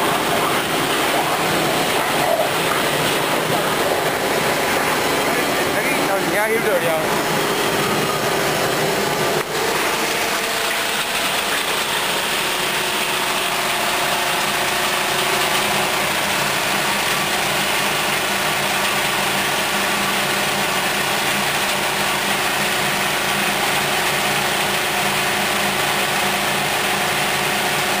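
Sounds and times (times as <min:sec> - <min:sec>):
crushing machine grinding: 0:00.0 - 0:28.0.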